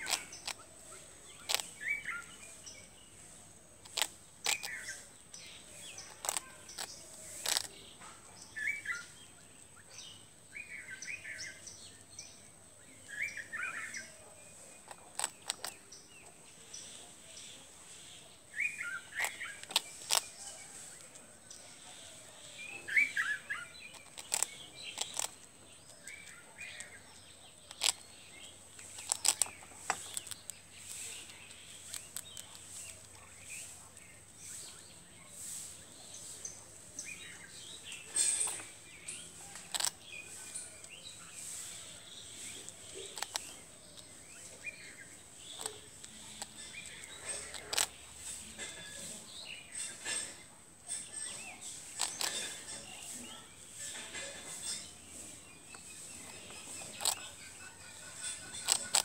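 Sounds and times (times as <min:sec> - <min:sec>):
squirrel crunching toast: 0:00.0 - 0:08.8, 0:13.1 - 0:34.8, 0:36.7 - 0:54.9, 0:55.5 - 0:59.0
birds chirping: 0:00.0 - 0:59.0.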